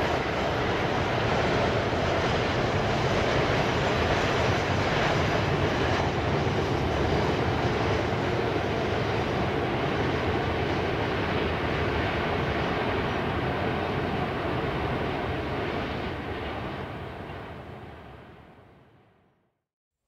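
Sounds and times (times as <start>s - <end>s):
freight train rumbling: 0.0s - 18.5s.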